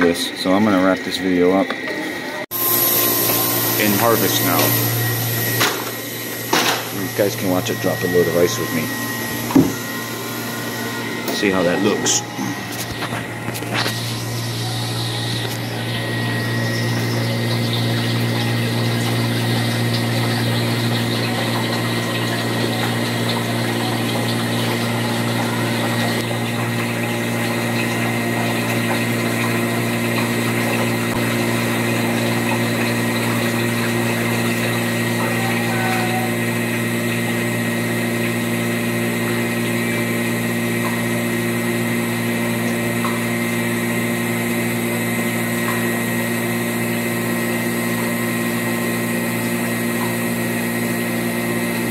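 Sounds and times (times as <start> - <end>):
ice machine mechanical hum: 0.0 - 51.9
ice machine hiss: 0.1 - 51.9.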